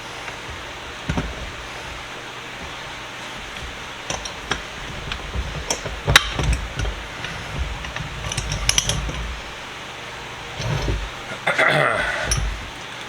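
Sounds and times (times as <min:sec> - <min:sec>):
metal tools clinking and knocking: 0:00.0 - 0:13.0.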